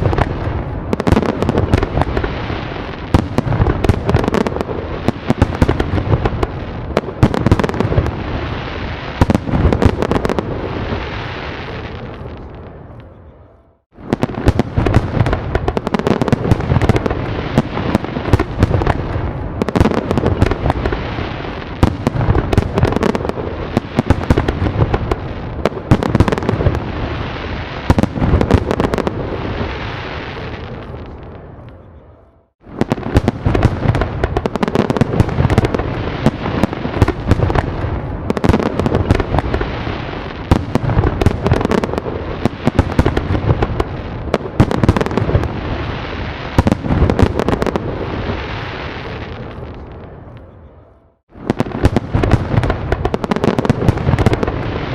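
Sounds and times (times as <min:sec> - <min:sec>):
fireworks crackling: 0:00.0 - 0:13.2, 0:13.8 - 0:31.8, 0:32.4 - 0:54.9
fireworks bangs: 0:00.0 - 0:54.9.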